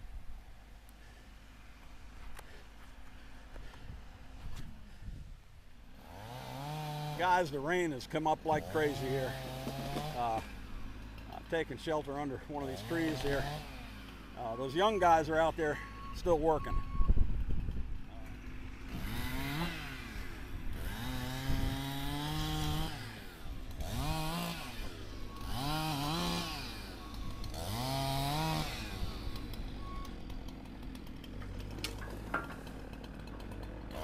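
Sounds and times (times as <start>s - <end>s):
chainsaw cutting limbs: 5.7s - 34.0s.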